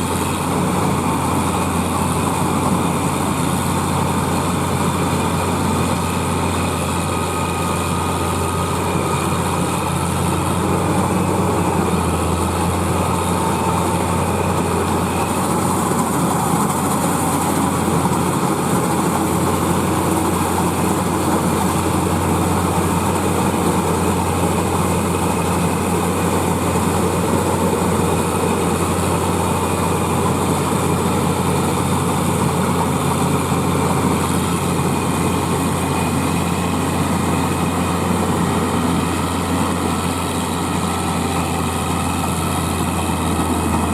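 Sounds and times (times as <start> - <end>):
combine harvester diesel engine droning: 0.0 - 43.9.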